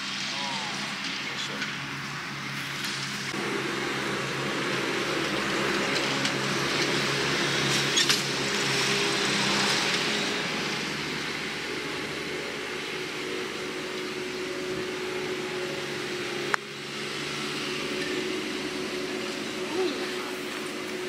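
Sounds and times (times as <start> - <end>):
vehicle motor running: 0.0 - 21.0.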